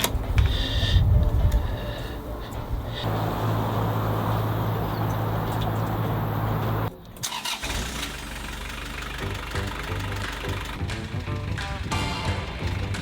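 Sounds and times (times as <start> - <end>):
low pulsing engine run: 0.0 - 7.0, 7.6 - 13.0
diesel engine running: 0.0 - 13.0.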